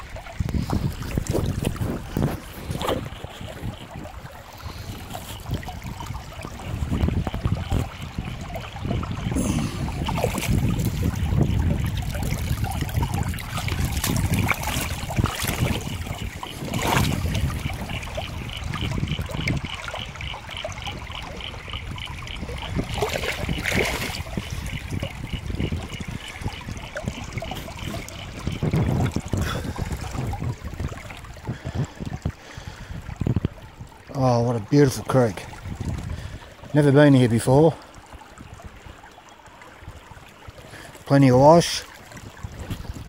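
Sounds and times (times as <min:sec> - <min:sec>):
water rushing through sluice: 0:00.0 - 0:43.0.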